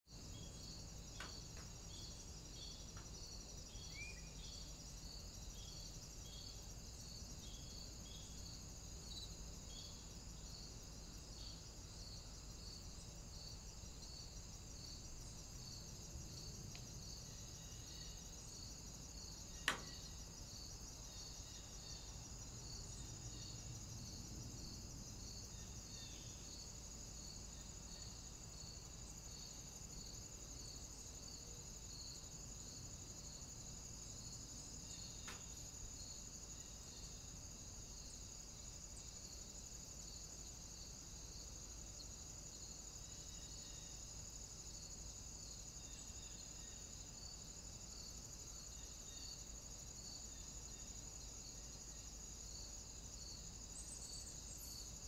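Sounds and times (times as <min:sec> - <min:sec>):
insects chirring: 0:00.1 - 0:55.0.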